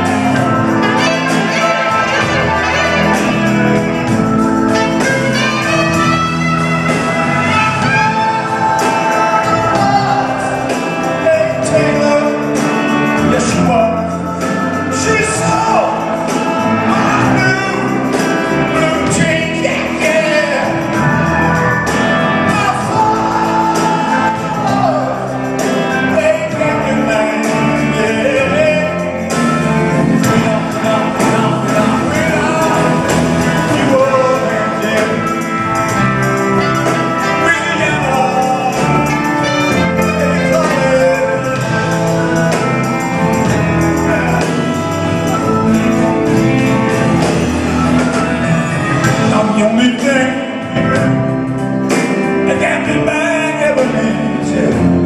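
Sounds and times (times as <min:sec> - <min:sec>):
bass guitar: 0:00.0 - 0:55.0
drums: 0:00.0 - 0:55.0
man singing: 0:04.0 - 0:21.3, 0:22.4 - 0:47.5, 0:48.1 - 0:55.0.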